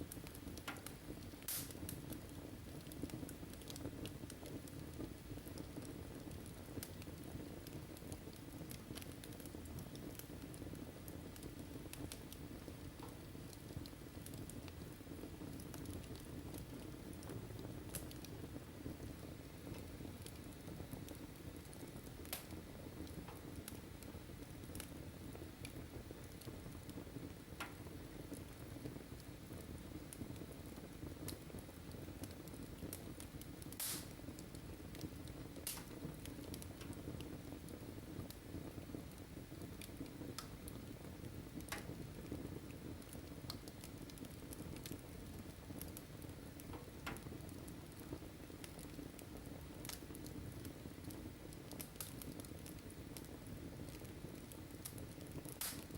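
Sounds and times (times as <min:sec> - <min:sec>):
fire crackles and pops: 0:00.0 - 0:55.9
wood fire rustling: 0:00.0 - 0:55.9.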